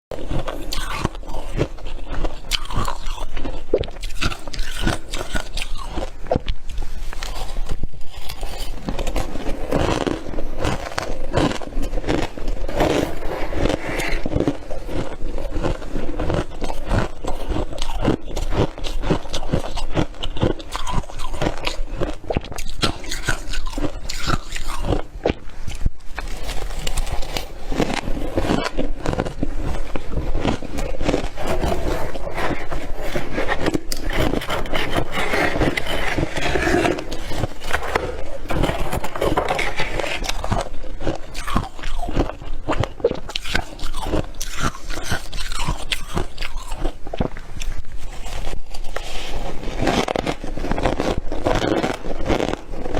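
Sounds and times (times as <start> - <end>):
crunchy chewing of frost: 0.1 - 52.9.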